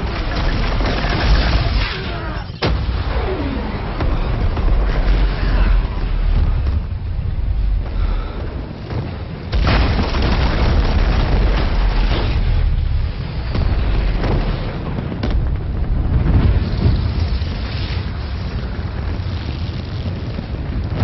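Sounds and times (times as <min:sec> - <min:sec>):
huge explosion rumbling roar: 0:00.0 - 0:21.0.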